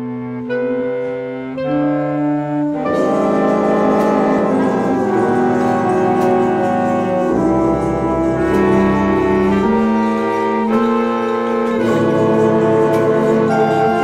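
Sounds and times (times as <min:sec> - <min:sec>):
ensemble playing held chords: 0:00.0 - 0:14.0.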